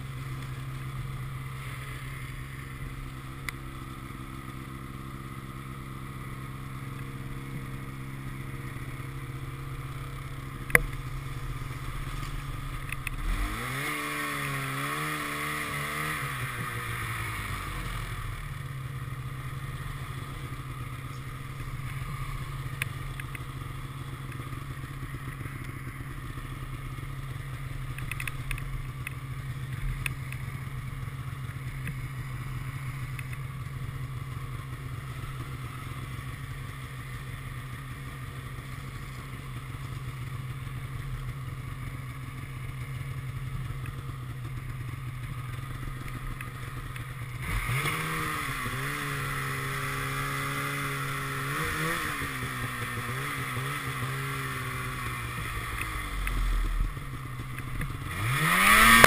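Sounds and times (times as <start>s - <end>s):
snowmobile engine droning: 0.0s - 59.0s.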